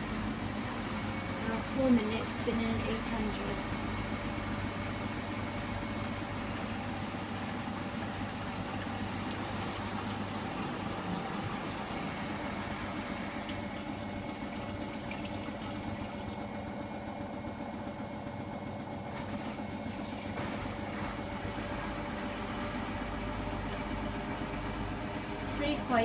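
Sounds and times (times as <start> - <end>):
washing machine spinning: 0.0 - 26.0.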